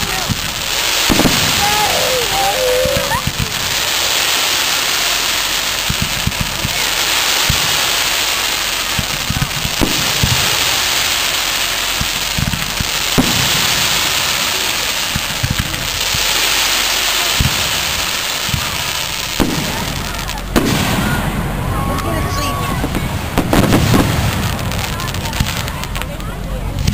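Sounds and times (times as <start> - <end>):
fireworks booming: 0.0 - 26.9
fireworks crackling hiss: 0.0 - 26.9.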